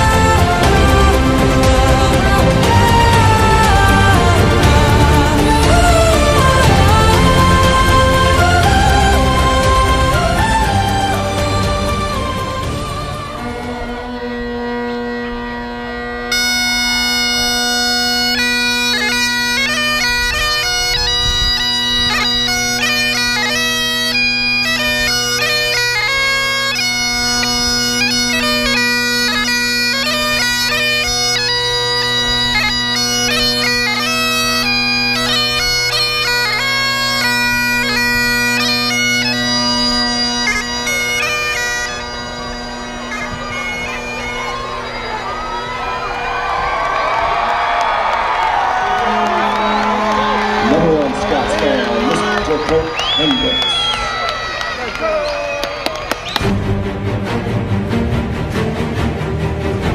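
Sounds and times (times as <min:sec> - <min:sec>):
bagpipe chanter melody: 0:00.0 - 0:59.2
bagpipe drones: 0:00.0 - 0:59.9.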